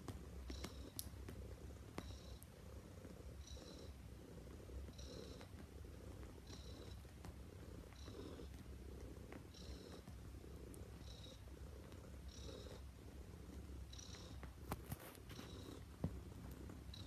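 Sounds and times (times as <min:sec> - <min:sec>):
cat purring softly: 0:00.0 - 0:17.0.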